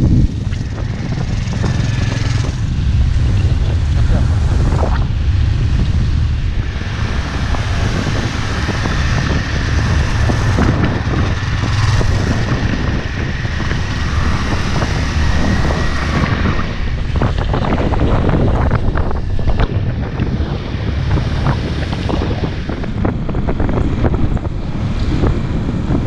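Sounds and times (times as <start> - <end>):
motorcycle and tyres on road: 0.0 - 26.0
wind buffeting microphone: 0.0 - 26.0.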